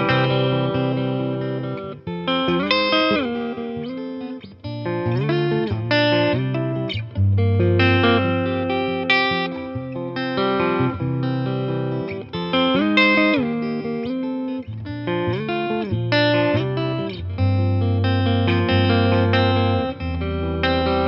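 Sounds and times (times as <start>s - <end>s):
clean electric guitar playing: 0.0s - 21.0s.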